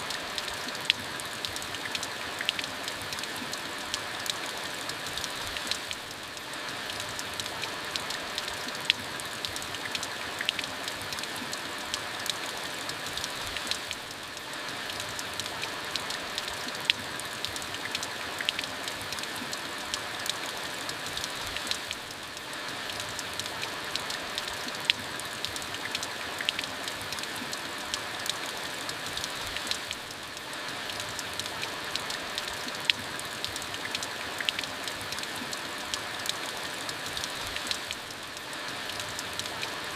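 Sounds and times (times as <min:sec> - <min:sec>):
steady rain hiss: 0:00.0 - 0:39.9
raindrops tapping a surface: 0:00.1 - 0:39.9.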